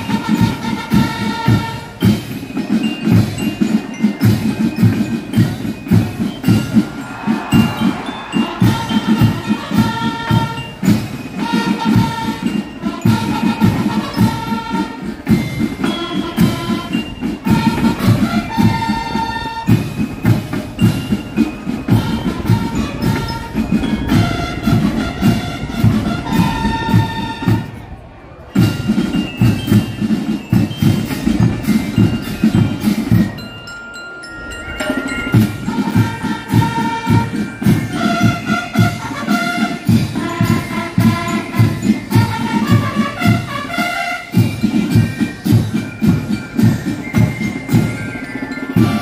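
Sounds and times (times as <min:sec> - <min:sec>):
high band melody: 0:00.0 - 0:33.5, 0:34.6 - 0:49.0
marching band drums: 0:00.0 - 0:33.6, 0:34.8 - 0:49.0.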